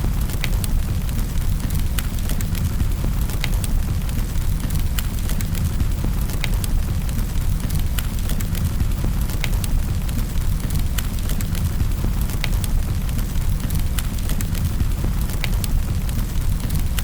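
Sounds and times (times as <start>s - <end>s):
burning wood crackling and popping: 0.0s - 17.0s
low rumble of flames: 0.0s - 17.0s.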